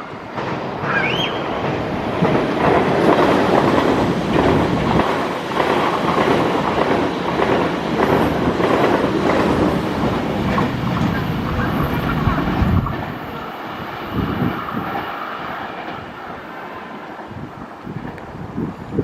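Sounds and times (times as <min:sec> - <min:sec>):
wheels clacking over rail joints: 0:00.0 - 0:17.0
train passing: 0:00.0 - 0:19.0.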